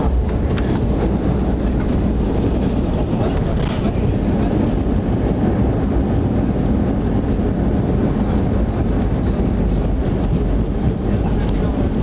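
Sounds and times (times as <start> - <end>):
jet airliner landing rumble: 0.0 - 12.0.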